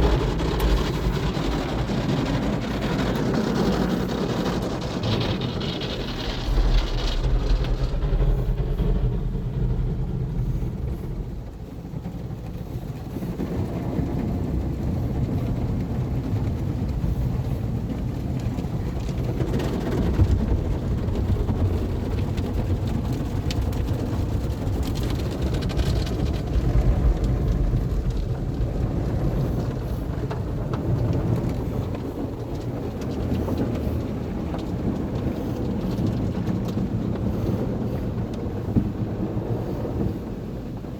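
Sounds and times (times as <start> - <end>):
automatic car wash running: 0.0 - 40.9.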